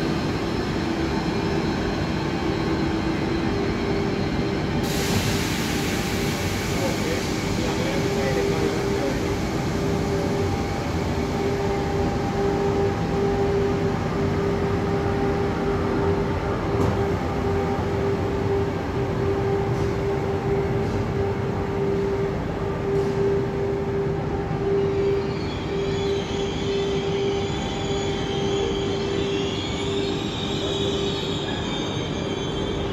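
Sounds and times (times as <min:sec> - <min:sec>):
electric train humming: 0:00.0 - 0:32.9
train wheels squealing on rails: 0:00.0 - 0:32.9.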